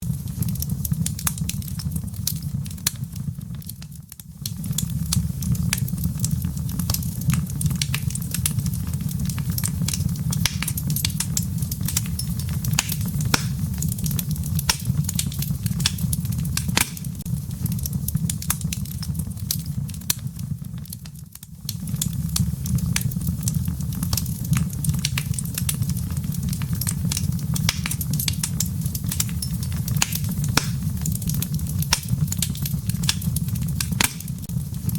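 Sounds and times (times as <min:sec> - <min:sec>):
burning wood crackling: 0:00.0 - 0:34.9
fire rumbling: 0:00.0 - 0:34.9.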